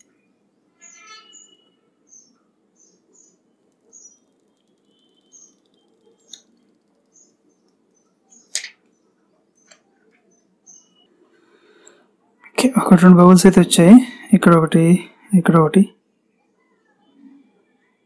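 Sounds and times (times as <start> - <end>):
small birds chirping: 0.0 - 12.5, 16.0 - 18.0.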